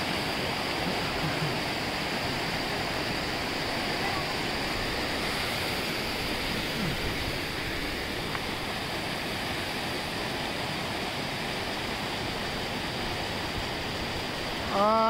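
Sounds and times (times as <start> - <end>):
stream rushing over boulders: 0.0 - 15.0.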